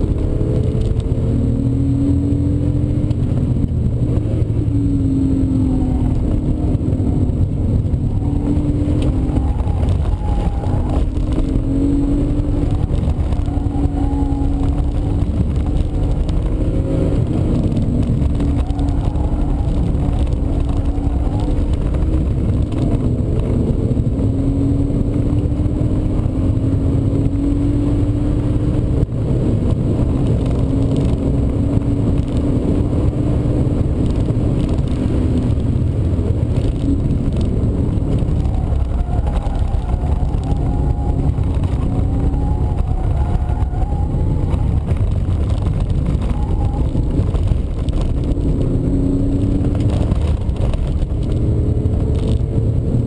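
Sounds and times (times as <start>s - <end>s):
car engine accelerating with upshifts: 0.0s - 53.0s
road and wind rumble: 0.0s - 53.0s.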